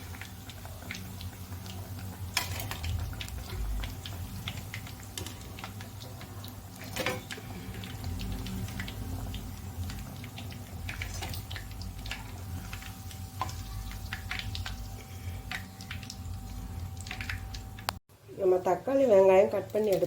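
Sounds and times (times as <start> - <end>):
oil crackling and popping: 0.0 - 18.0
low steady hum: 0.0 - 20.0.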